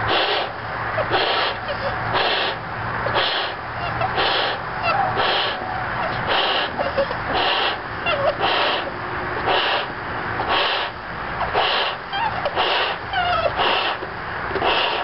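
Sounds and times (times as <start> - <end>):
breath blown into balloon: 0.0 - 4.6, 5.2 - 14.0, 14.6 - 15.0.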